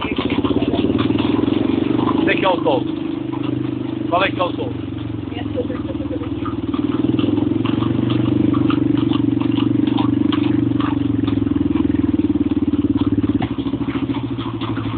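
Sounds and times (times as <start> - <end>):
cart wheels on cobbles: 0.0 - 14.9
horseshoes on cobbles: 0.0 - 14.9
motor engine running: 0.0 - 14.9.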